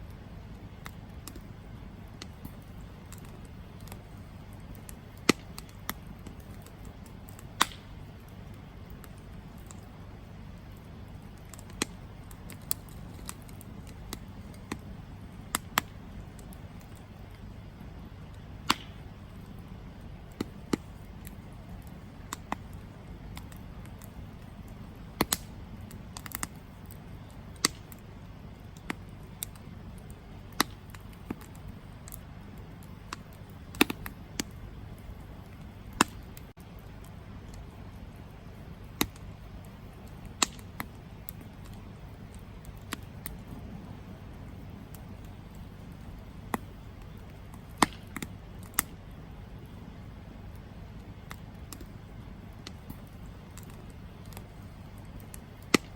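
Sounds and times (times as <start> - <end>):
campfire crackling and popping: 0.0 - 55.9
low rumble of flames: 0.0 - 55.9.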